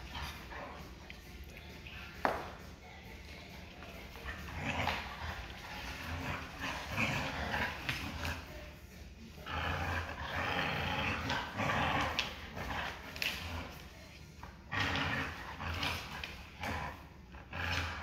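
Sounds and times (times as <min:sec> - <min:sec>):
dogs growling in play: 0:00.0 - 0:02.6, 0:03.5 - 0:18.0.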